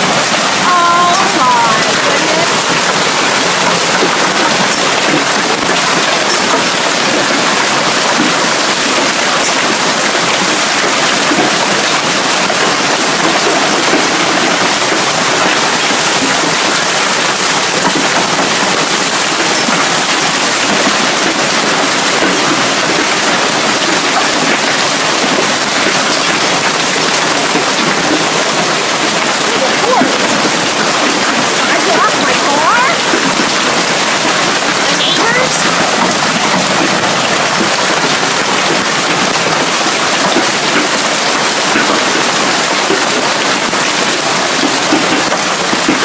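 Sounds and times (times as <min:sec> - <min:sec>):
heavy rain and hail: 0:00.0 - 0:46.0.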